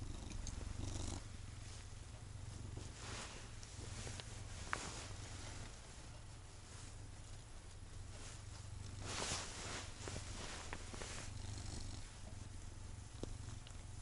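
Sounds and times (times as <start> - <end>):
cat purring: 0.0 - 14.0
rustling: 0.0 - 14.0.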